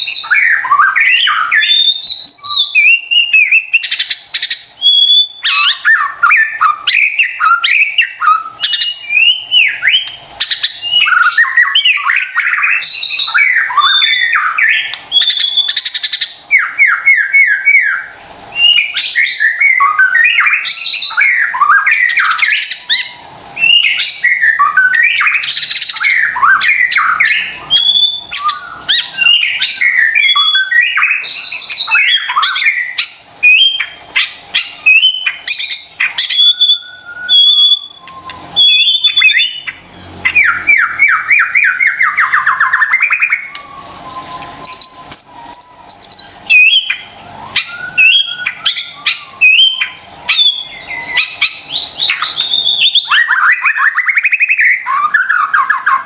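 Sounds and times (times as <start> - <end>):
songbird whistles chirps and trills: 0.0 - 56.0.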